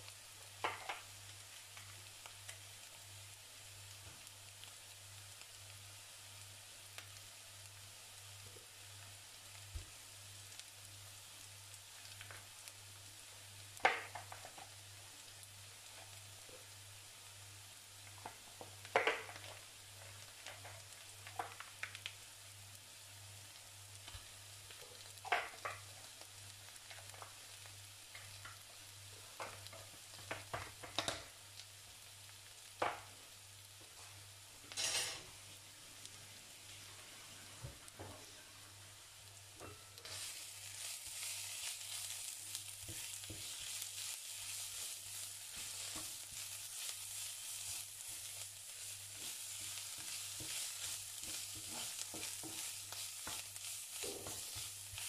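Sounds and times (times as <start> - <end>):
onion and garlic sizzling in pan: 0.0 - 55.0.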